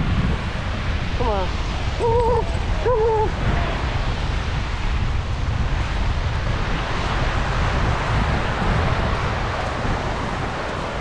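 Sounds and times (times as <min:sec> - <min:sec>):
surf on a beach: 0:00.0 - 0:11.0
wind buffeting microphone: 0:00.0 - 0:11.0.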